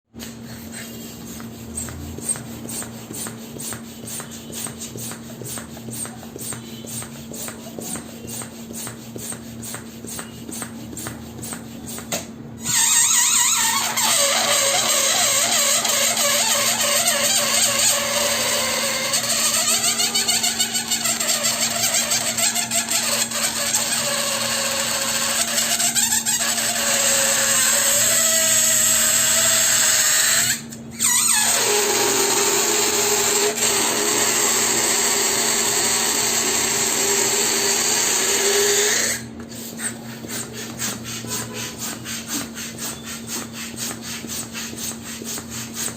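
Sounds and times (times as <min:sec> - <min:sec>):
balloon air release squealing: 0:00.2 - 0:45.9.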